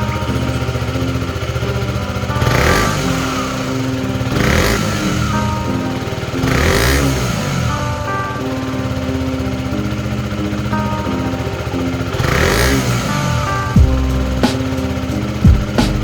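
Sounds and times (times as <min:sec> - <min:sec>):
background music: 0:00.0 - 0:16.0
motorcycle engine idling and revving: 0:00.0 - 0:16.0.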